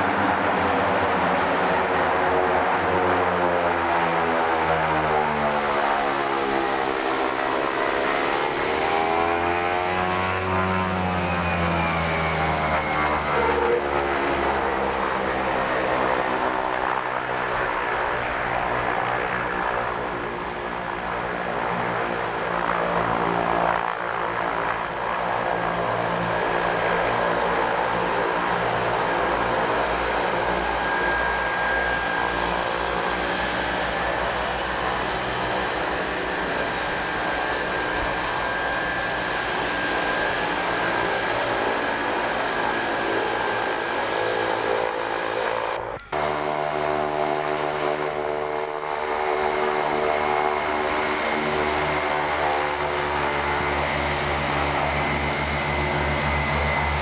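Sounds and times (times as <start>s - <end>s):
turboprop plane engines and propellers: 0.0s - 57.0s.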